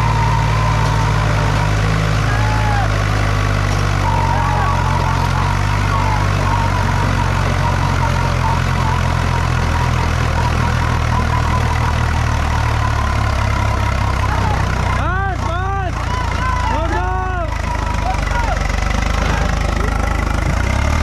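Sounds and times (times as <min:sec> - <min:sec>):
diesel engines under load: 0:00.0 - 0:21.0
wheels spinning in dirt: 0:00.0 - 0:21.0.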